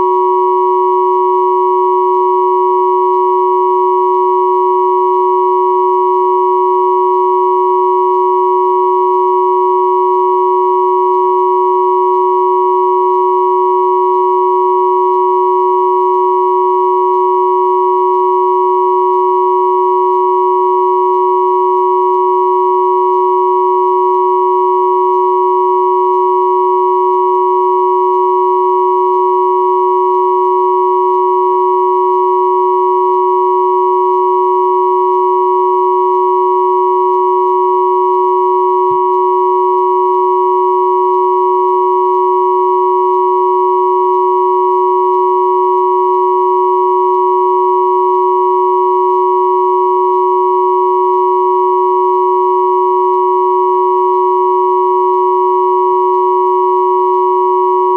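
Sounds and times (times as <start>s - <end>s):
steady sine tone chord: 0.0s - 57.9s.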